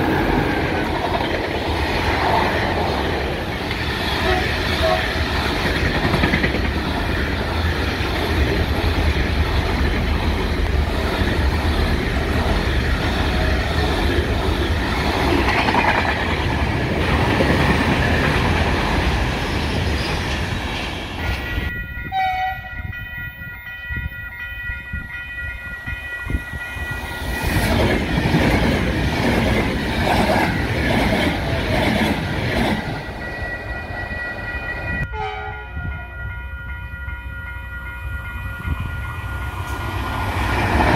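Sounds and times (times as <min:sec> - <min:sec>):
electric train high tones: 0:00.0 - 0:40.9
freight train rumbling: 0:00.0 - 0:40.9
train passing rush: 0:00.0 - 0:40.9.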